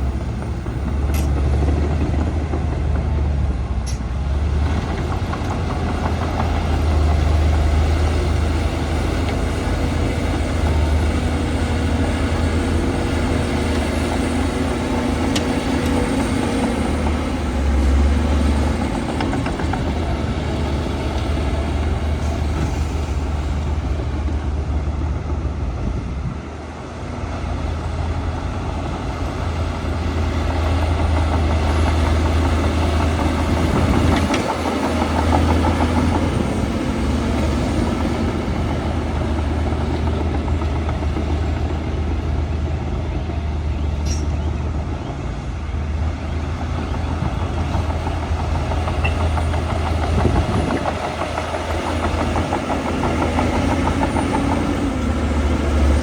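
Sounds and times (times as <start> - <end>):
heavy diesel machinery: 0.0 - 56.0.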